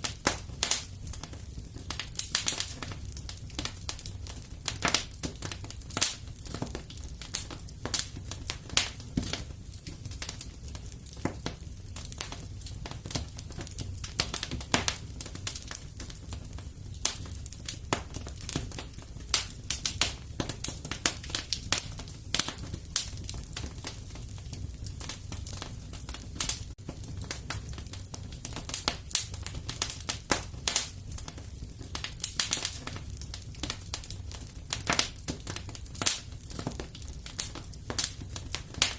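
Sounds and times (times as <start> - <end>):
fire pops and snaps: 0.0 - 38.9
wood fire rumbling: 0.0 - 38.9.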